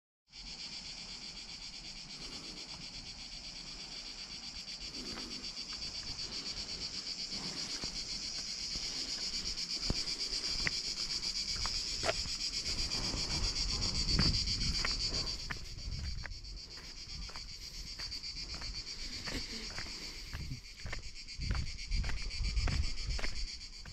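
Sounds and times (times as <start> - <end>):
cicadas buzzing: 0.3 - 23.9.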